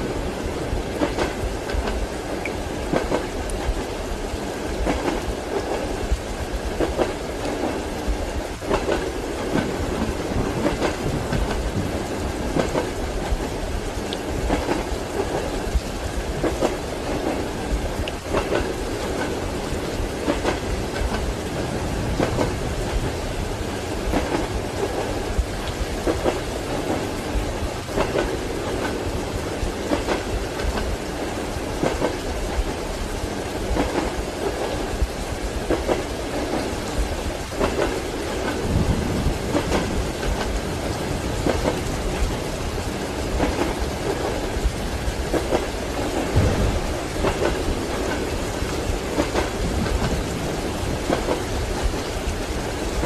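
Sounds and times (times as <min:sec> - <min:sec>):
railway carriage rumble: 0:00.0 - 0:53.0
rain falling: 0:00.0 - 0:53.0
train wheels clicking over rail joints: 0:00.9 - 0:03.9, 0:04.8 - 0:06.0, 0:06.7 - 0:21.4, 0:22.0 - 0:32.7, 0:35.6 - 0:38.8, 0:39.4 - 0:42.3, 0:43.4 - 0:52.2.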